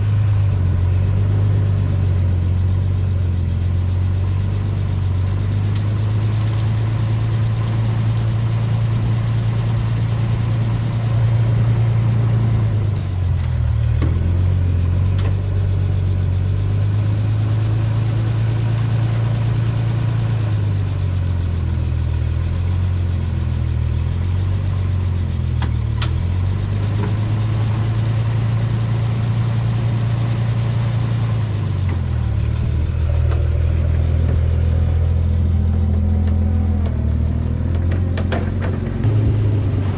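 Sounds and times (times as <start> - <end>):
truck engine humming: 0.0 - 39.9.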